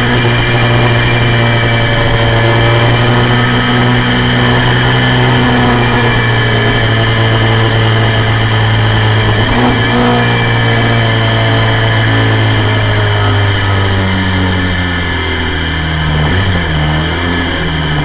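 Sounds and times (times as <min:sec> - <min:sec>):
motorcycle engine at high revs: 0:00.0 - 0:18.0.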